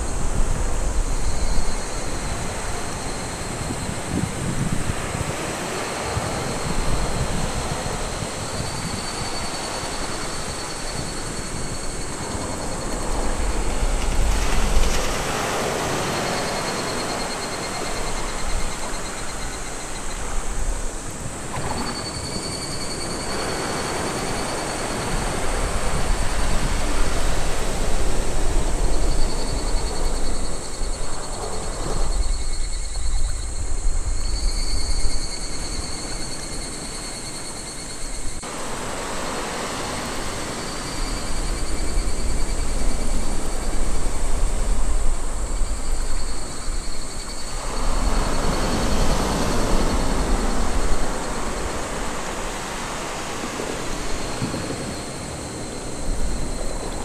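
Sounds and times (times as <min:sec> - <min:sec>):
small waves breaking on beach: 0:00.0 - 0:30.7, 0:35.5 - 0:57.0.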